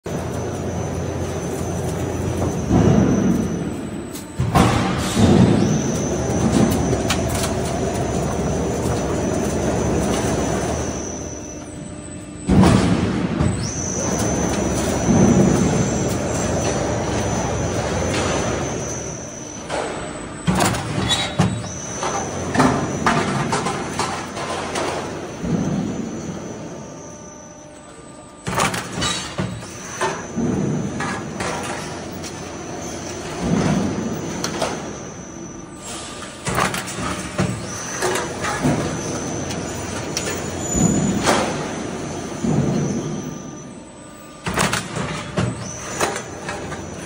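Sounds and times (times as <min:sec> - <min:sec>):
machine droning with high whine: 0:00.0 - 0:47.0.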